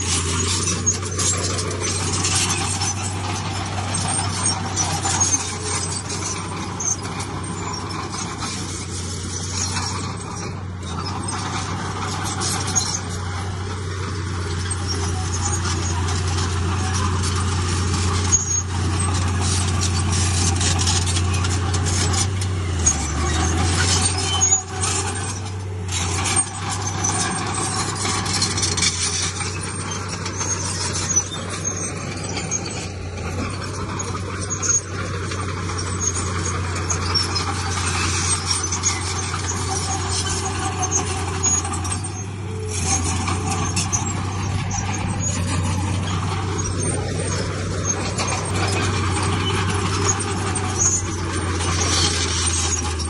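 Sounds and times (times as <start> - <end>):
heavy diesel machinery clattering: 0.0 - 53.0.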